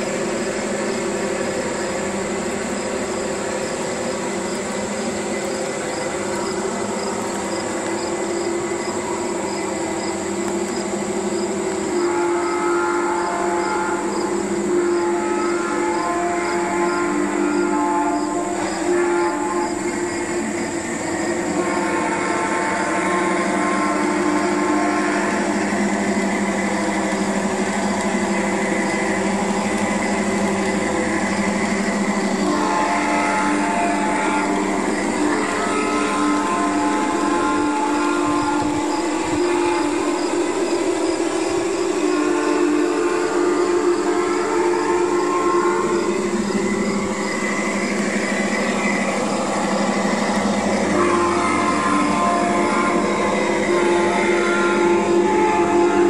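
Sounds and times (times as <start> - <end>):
high motor whine: 0.0 - 56.0
model locomotives droning: 0.0 - 56.0.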